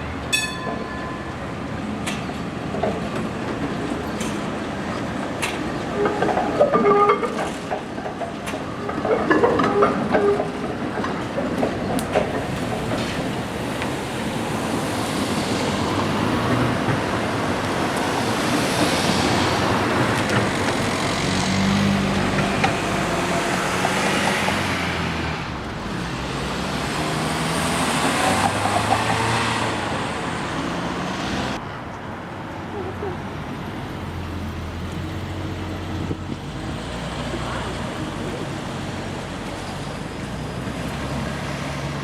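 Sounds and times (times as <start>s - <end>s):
road traffic: 0.0s - 42.0s
streetcar running on track: 0.0s - 42.0s.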